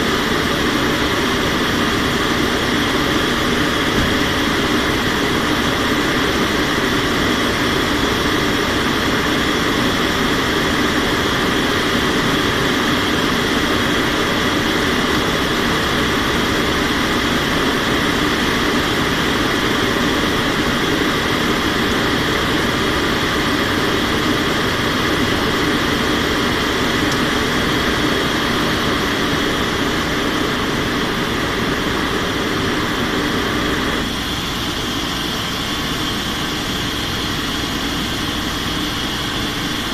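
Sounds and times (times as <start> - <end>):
aircraft engines and rushing air: 0.0 - 39.9.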